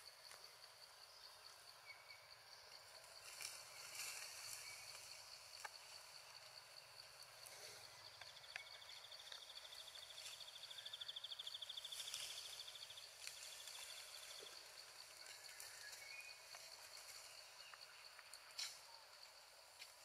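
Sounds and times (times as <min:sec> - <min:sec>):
fast pulsing insect trill: 0:00.0 - 0:20.0.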